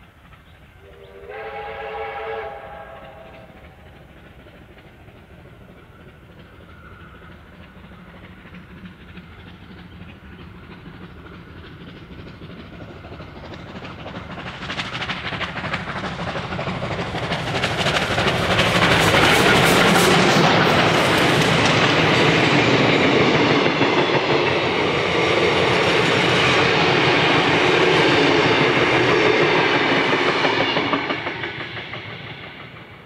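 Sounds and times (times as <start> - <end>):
steam locomotive exhaust beats: 0.0 - 33.0
train rumbling: 0.0 - 33.0.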